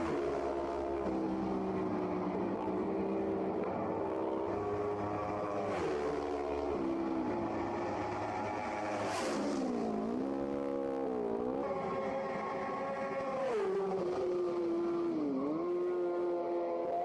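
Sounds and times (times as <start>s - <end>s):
racing motorcycle engine revving: 0.0s - 17.0s.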